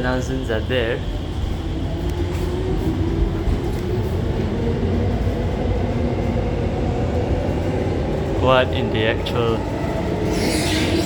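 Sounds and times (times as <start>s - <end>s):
metro train rumble: 0.0s - 11.0s.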